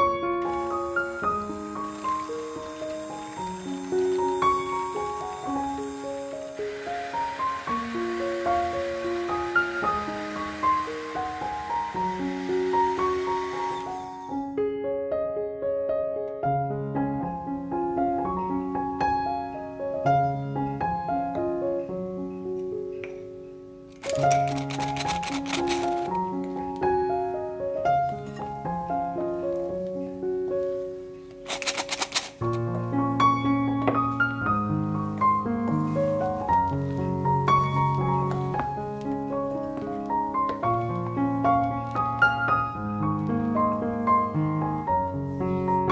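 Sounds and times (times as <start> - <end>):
gentle piano music: 0.0 - 45.9.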